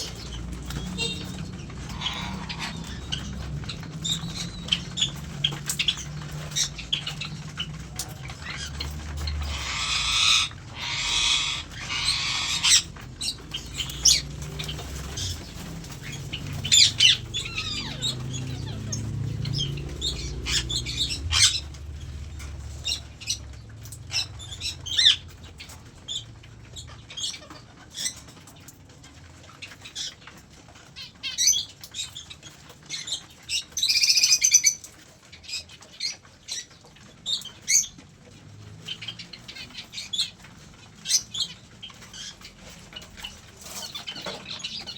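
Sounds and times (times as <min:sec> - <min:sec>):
bird calls: 0:00.0 - 0:44.9
birds flapping wings: 0:00.0 - 0:44.9.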